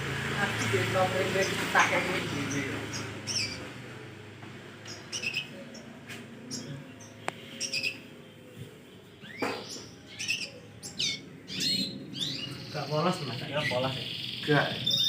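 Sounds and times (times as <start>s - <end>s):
canaries chirping: 0.0s - 15.0s.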